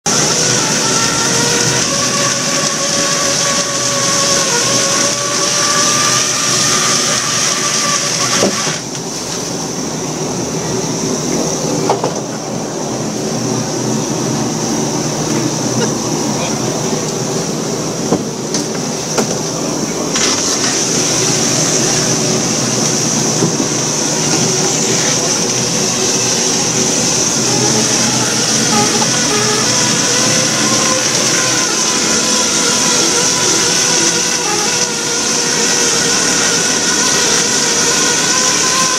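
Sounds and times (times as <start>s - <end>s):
machinery whine: 0.0s - 38.9s
boat engine hiss: 0.1s - 38.9s.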